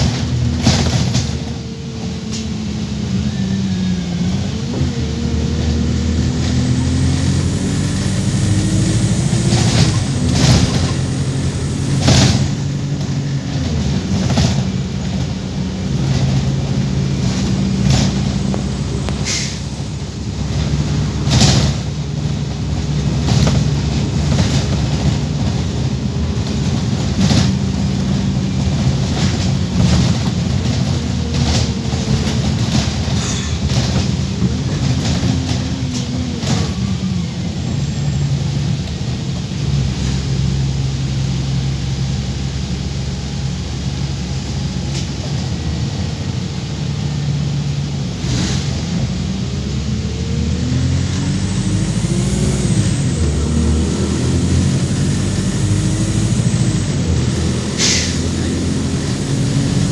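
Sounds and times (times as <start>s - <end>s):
bus engine and gearbox: 0.0s - 59.9s.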